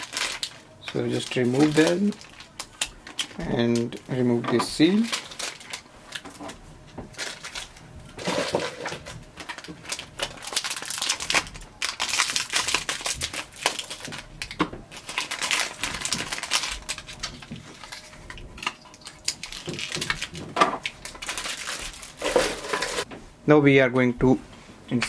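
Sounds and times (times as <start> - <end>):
plastic packaging crinkling: 0.0 - 23.1.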